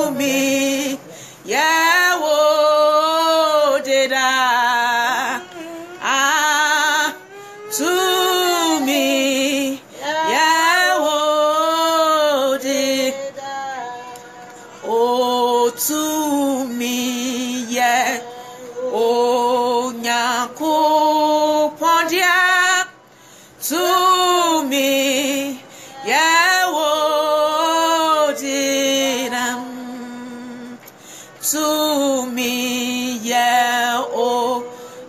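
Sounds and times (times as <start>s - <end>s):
woman singing unaccompanied: 0.0s - 35.0s.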